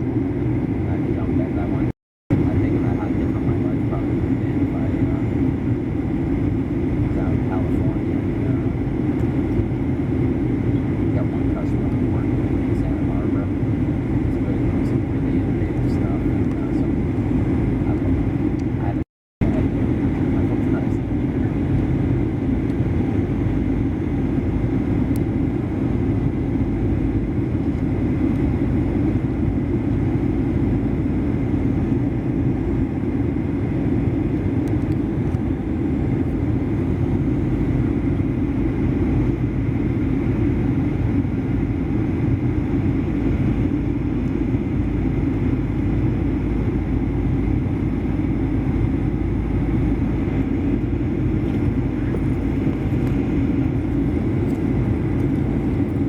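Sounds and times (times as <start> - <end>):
jet engine drone in cabin: 0.0 - 56.0.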